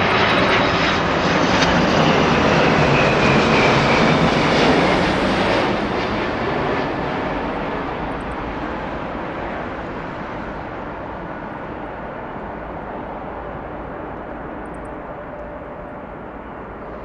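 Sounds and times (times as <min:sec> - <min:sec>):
jet airliner roar: 0:00.0 - 0:17.0.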